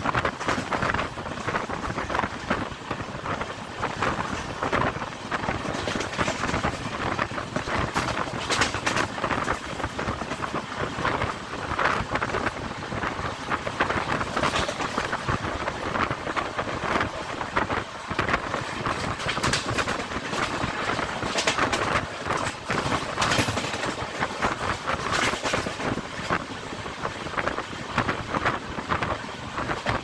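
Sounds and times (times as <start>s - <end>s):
train wheels clattering on rails: 0.0s - 30.0s
wind rushing on microphone: 0.0s - 30.0s.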